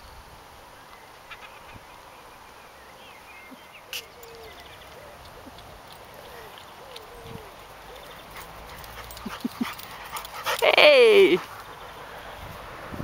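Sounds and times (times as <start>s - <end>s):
faint birdsong: 0.0s - 10.4s, 11.4s - 12.5s.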